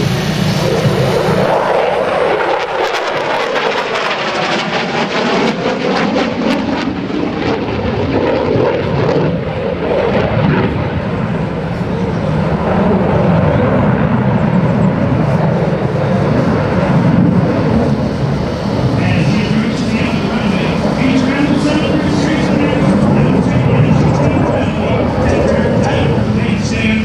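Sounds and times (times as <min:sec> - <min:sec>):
jet engine roaring overhead: 0:00.0 - 0:27.0.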